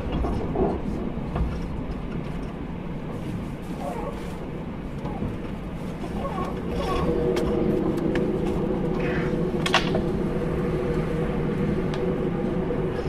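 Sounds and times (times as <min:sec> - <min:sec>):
onboard equipment hum: 0:00.0 - 0:13.0
train interior rumble: 0:00.0 - 0:13.0.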